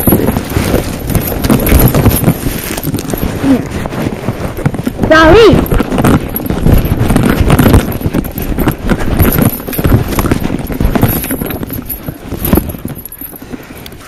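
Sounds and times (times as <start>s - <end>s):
camera rustling against brush: 0.0s - 14.0s.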